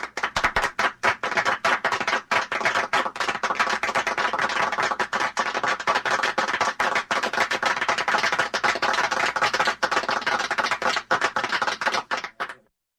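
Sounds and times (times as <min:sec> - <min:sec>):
people applauding: 0:00.0 - 0:12.7.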